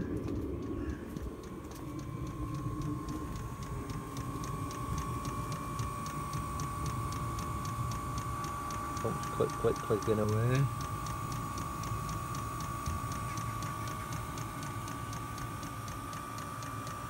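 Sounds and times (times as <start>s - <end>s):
blower fan whine: 0.0s - 17.0s
fuel pump ticking: 0.0s - 17.0s.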